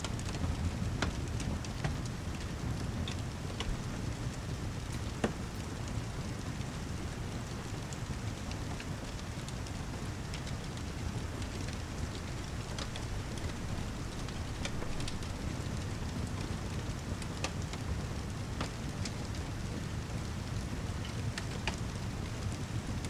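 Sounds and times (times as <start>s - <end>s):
fireplace crackling: 0.0s - 23.0s
steady rain: 0.0s - 23.0s.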